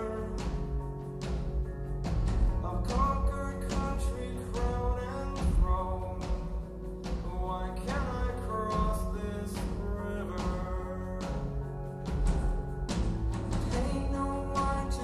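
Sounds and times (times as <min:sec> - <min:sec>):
background music with drums: 0:00.0 - 0:15.0.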